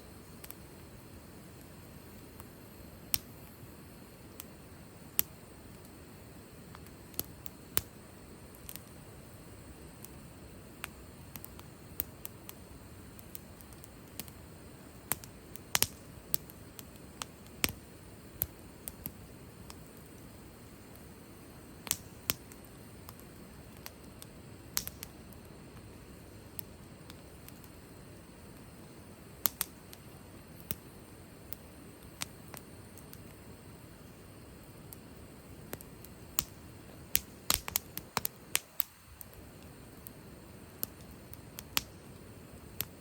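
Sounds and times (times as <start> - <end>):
low hiss of burning: 0.0 - 43.0
fire pops and snaps: 0.2 - 0.7, 1.5 - 3.6, 4.3 - 6.0, 6.6 - 9.0, 9.6 - 43.0.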